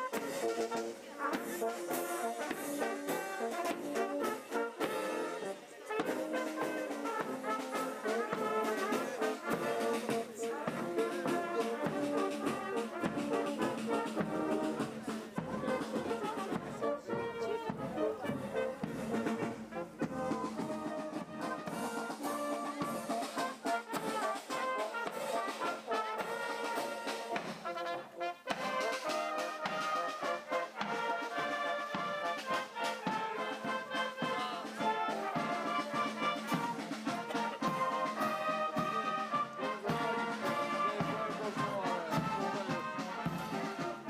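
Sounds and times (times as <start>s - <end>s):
brass band playing: 0.0s - 44.0s
drum beats: 0.0s - 44.0s
trumpets and trombones: 0.0s - 44.0s.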